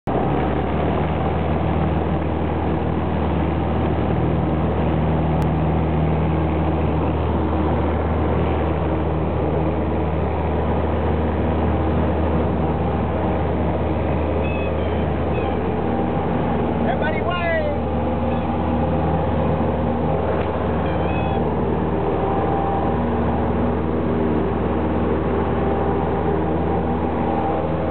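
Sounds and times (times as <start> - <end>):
airplane engine and propeller drone: 0.0 - 27.9.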